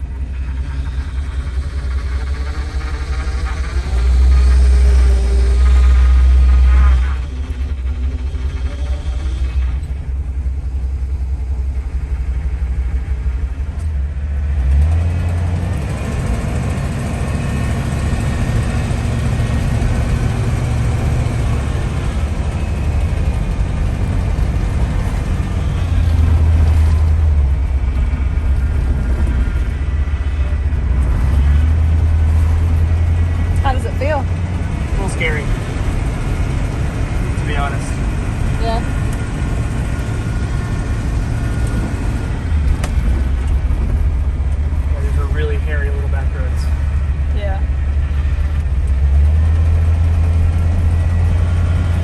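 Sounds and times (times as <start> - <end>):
motorhome engine and road rumble: 0.0 - 52.0.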